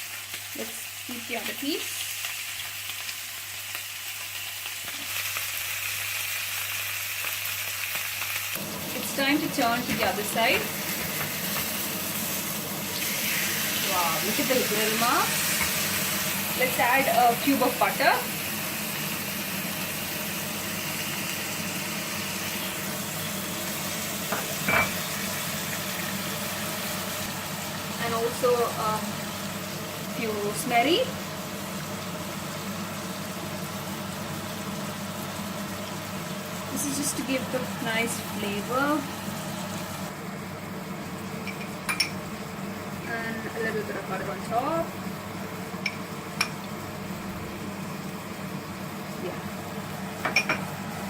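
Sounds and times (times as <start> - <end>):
steak sizzling on a grill pan: 0.0 - 51.0.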